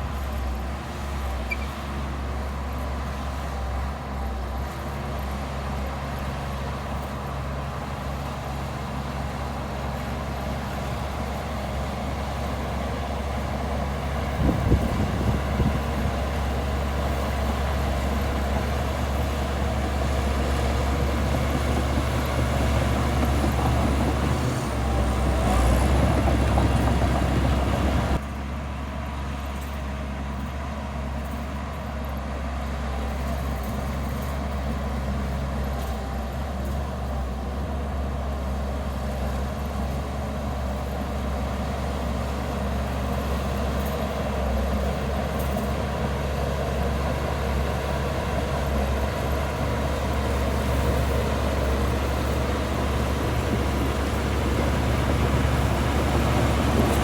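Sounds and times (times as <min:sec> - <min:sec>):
diesel earthmoving machinery: 0:00.0 - 0:57.0.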